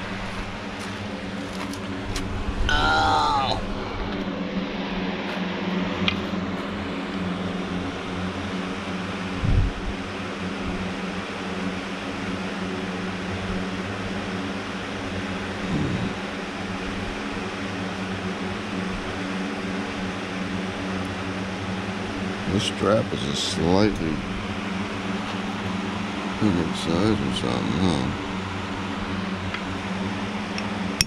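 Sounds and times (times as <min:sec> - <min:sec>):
machine hum: 0:00.0 - 0:31.0.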